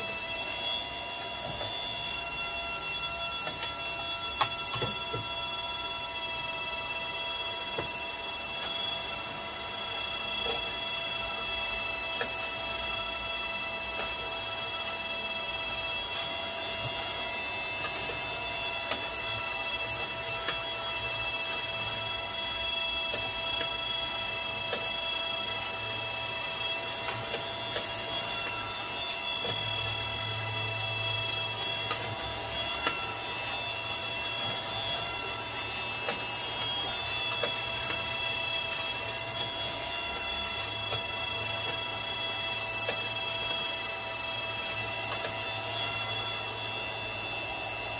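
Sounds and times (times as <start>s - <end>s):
cooling fan whine and hum: 0.0s - 47.9s.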